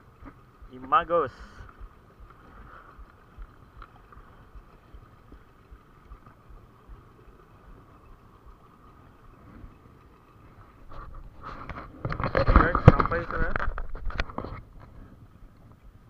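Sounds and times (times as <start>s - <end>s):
distant small boat engine hum: 0.0s - 16.0s.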